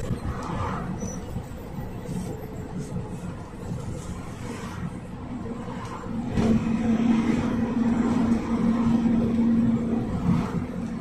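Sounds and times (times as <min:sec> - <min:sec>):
rumbling road noise: 0:00.0 - 0:11.0
vehicle drivetrain hum: 0:00.0 - 0:11.0.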